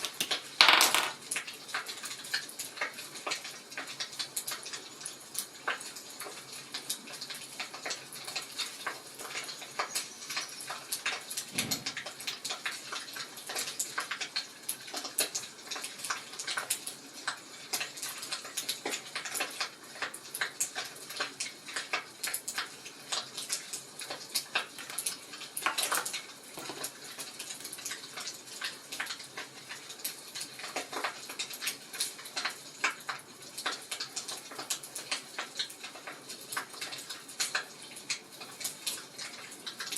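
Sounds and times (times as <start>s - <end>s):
wood fire crackling and popping: 0.0s - 0.6s, 1.2s - 39.9s.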